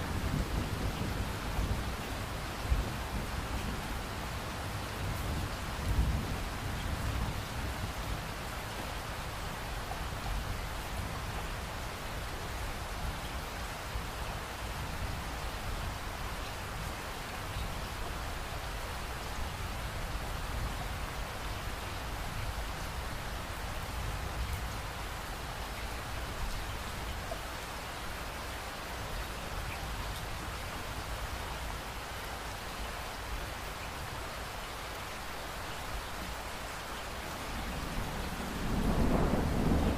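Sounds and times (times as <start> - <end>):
rain-like hiss and patter: 0.0 - 39.9.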